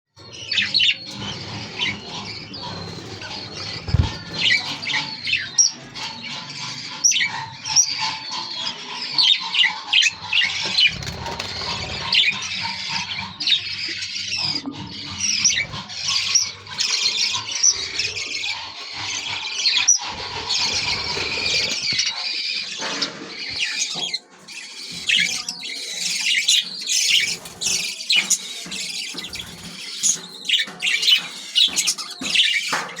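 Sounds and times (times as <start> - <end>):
budgerigars chattering: 0.2 - 33.0.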